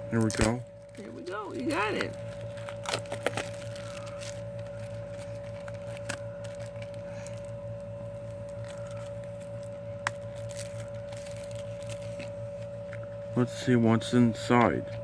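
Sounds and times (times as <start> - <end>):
electrical hum: 0.0 - 15.0
plastic packaging crinkling: 0.2 - 13.0.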